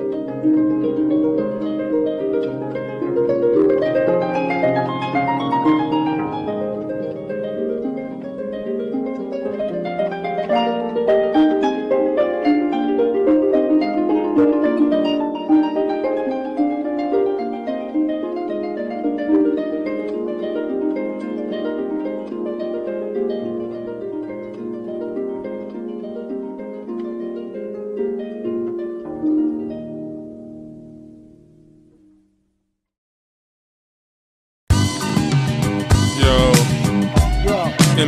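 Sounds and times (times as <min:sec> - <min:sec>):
plucked string music: 0:00.0 - 0:32.4, 0:34.7 - 0:38.0.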